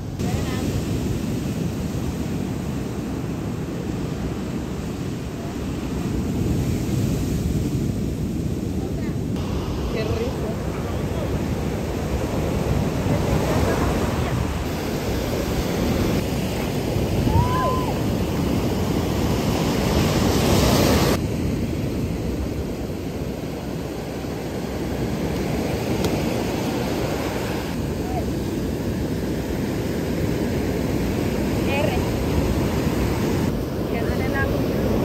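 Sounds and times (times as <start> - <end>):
waves breaking on beach: 0.0 - 35.0
wind on microphone: 0.0 - 35.0.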